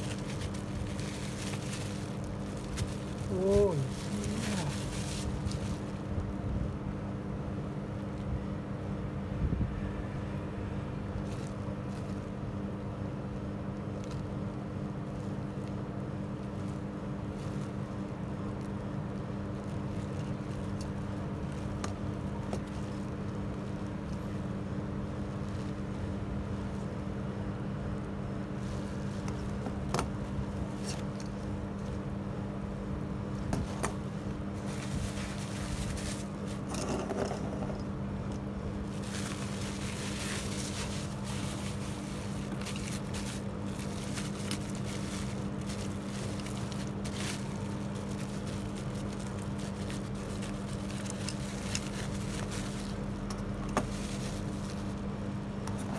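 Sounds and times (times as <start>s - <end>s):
bubble wrap crinkling: 0.0s - 6.8s, 11.1s - 27.3s, 27.9s - 36.9s, 38.6s - 55.9s
steady low hum: 0.0s - 55.9s.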